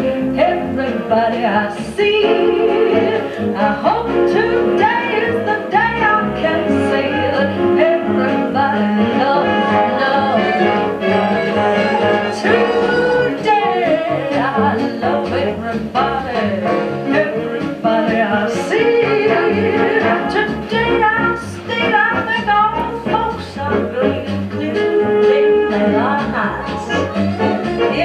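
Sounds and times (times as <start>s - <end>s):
big band orchestra music: 0.0s - 28.0s.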